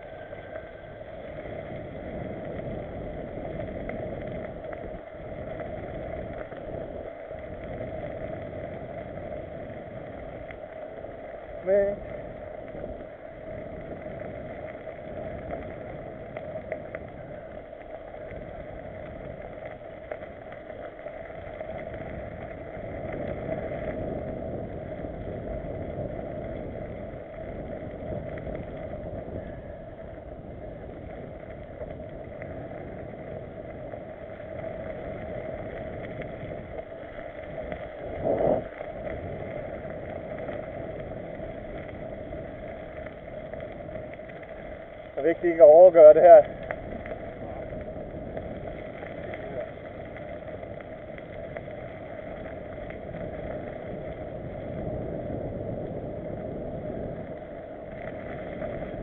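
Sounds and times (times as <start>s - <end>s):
mountain bike on dirt trail: 0.0s - 59.0s.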